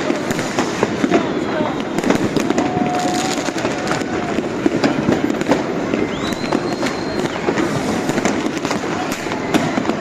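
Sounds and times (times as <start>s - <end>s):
fireworks and firecrackers banging: 0.0s - 10.0s
high firework whistle: 0.0s - 10.0s.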